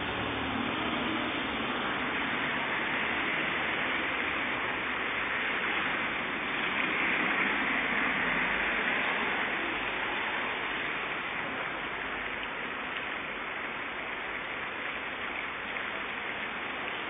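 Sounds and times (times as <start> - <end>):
car tyres on wet road: 0.0 - 17.0
heavy rain on pavement: 0.0 - 17.0.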